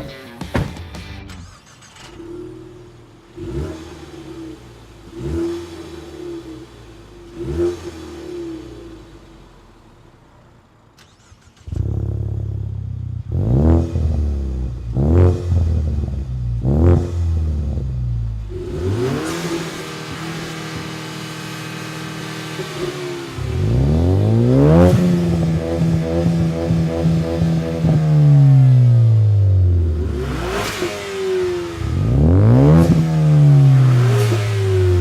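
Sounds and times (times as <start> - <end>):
car engine revving: 1.0 - 35.0.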